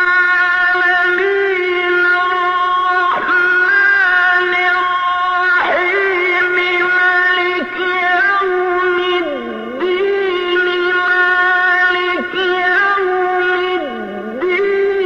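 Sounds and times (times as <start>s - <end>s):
person chanting recitation: 0.0s - 15.0s.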